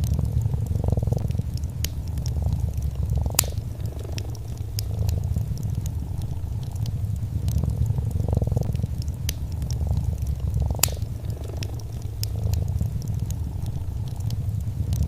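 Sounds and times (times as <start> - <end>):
cat purring: 0.0 - 15.0
fire crackling and popping: 0.0 - 15.0.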